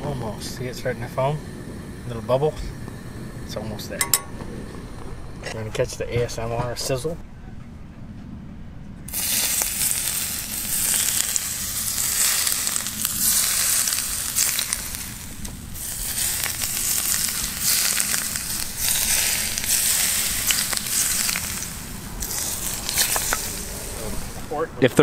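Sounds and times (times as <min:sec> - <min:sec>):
hot oil sizzling on fish: 0:00.0 - 0:05.4, 0:09.1 - 0:24.6.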